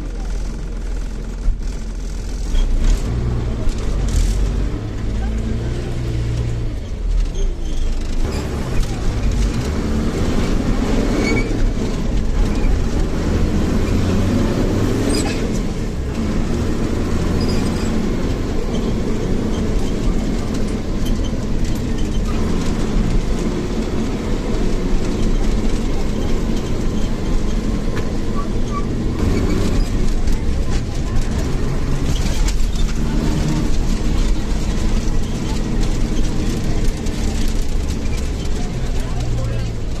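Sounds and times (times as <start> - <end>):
bus engine and road noise: 0.0 - 40.0
knocks and rattles: 6.3 - 40.0.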